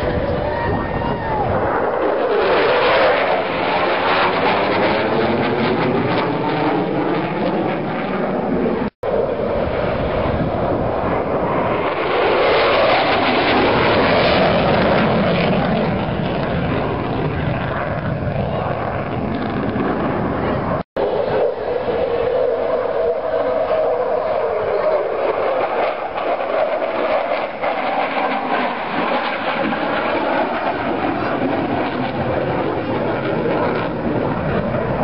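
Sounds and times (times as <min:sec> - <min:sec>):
fighter jet flying past: 0:00.0 - 0:35.0.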